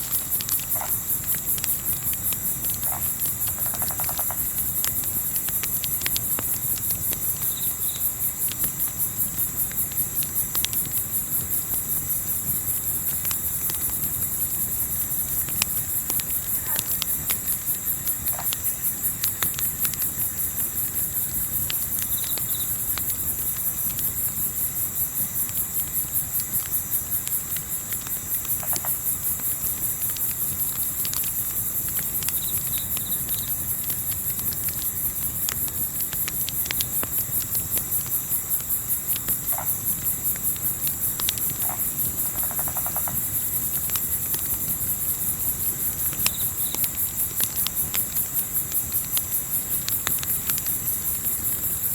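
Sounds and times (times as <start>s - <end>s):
campfire crackling: 0.0s - 51.9s
crickets chirping: 0.0s - 51.9s.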